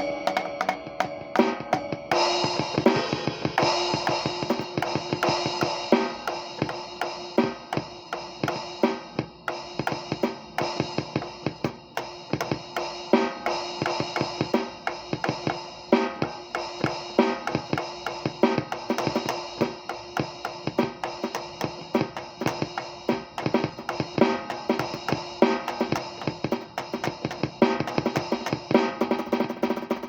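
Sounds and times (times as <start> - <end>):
drum kit groove: 0.0 - 30.0.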